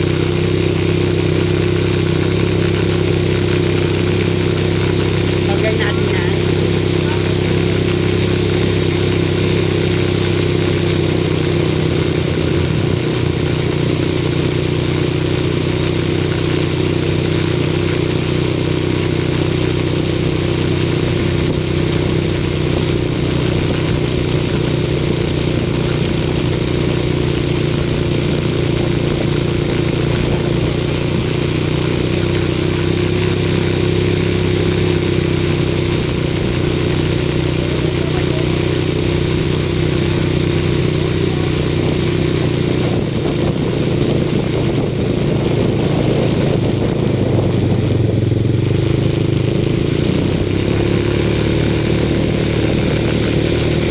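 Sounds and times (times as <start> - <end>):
atv engine running: 0.0 - 53.9.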